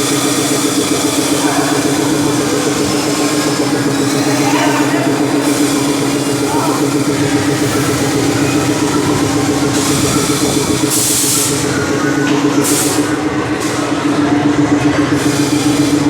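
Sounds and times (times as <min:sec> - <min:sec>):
airliner engine drone: 0:00.0 - 0:16.0.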